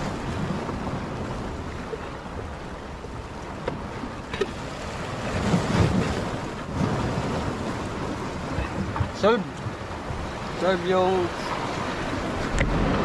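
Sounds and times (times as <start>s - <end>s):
sea waves washing on shore: 0.0s - 13.0s
wind buffeting microphone: 0.0s - 13.0s.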